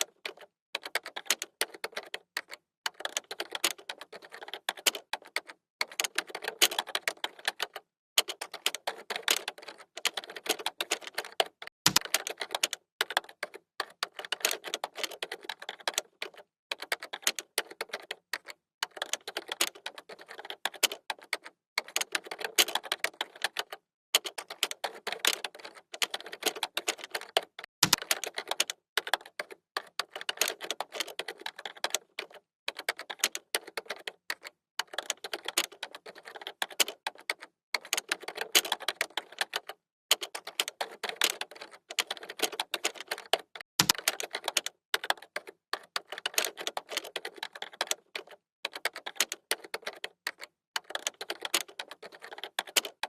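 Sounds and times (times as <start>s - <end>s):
fast typing on keyboard: 0.0s - 53.0s.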